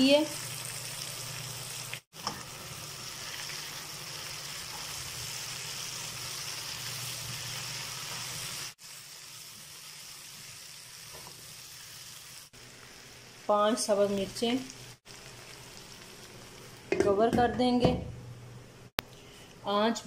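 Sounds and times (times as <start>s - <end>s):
vegetables sizzling in oil: 0.0s - 18.9s.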